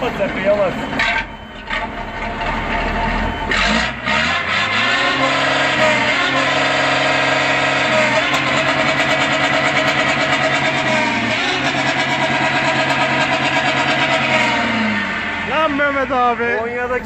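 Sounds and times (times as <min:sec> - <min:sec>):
diesel truck engine revving: 0:00.0 - 0:17.0.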